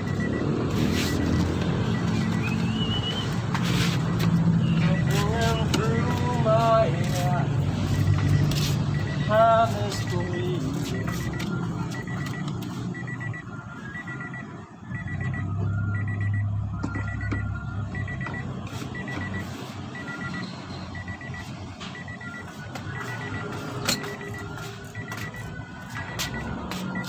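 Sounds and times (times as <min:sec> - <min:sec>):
high electronic beeps: 0:00.0 - 0:27.0.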